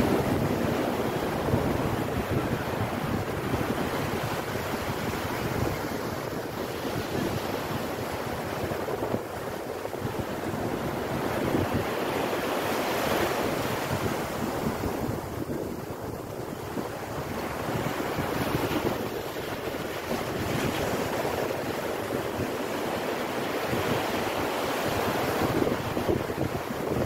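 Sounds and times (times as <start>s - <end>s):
surf washing up a beach: 0.0s - 27.0s
wind rumbling on microphone: 0.0s - 27.0s.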